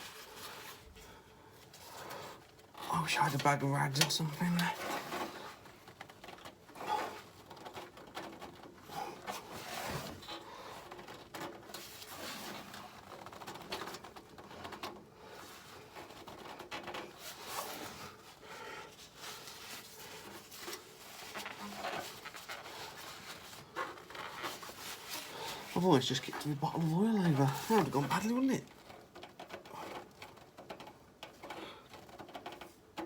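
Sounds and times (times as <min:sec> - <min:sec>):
hands rustling and scraping: 0:00.0 - 0:33.0.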